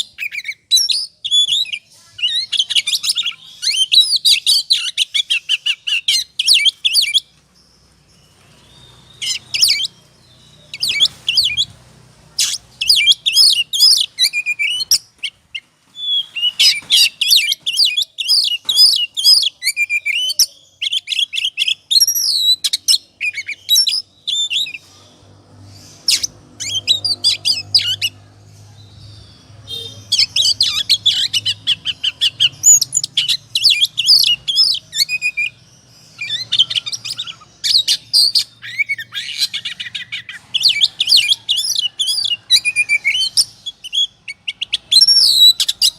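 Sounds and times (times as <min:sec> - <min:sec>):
bird singing whistles and chatter: 0:00.0 - 0:07.3, 0:08.2 - 0:11.8, 0:12.4 - 0:15.4, 0:16.0 - 0:28.2, 0:29.4 - 0:45.9.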